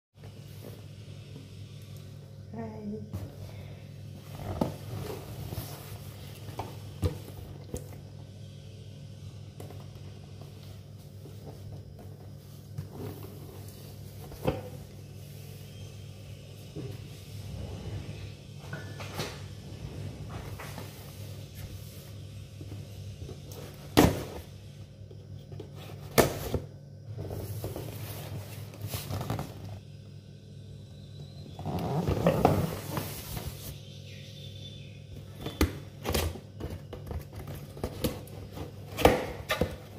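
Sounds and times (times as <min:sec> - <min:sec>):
steady low hum: 0:00.2 - 0:39.9.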